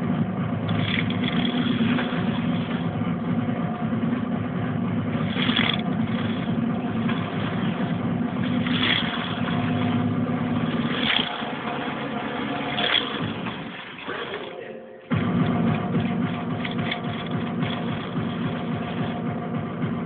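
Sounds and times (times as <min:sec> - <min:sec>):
slot car motors buzzing: 0:00.0 - 0:19.8.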